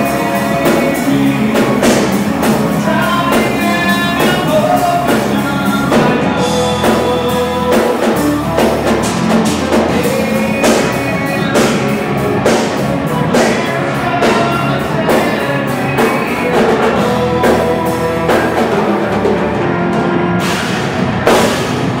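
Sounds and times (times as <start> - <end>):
heavy drum and cymbal hits: 0.0 - 22.0
live metal band playing: 0.0 - 22.0.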